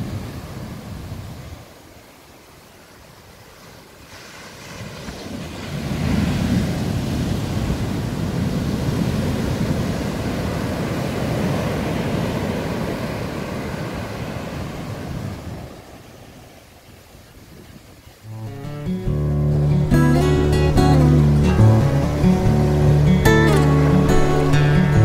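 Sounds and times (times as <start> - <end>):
waves breaking on sand beach: 0.0 - 25.0.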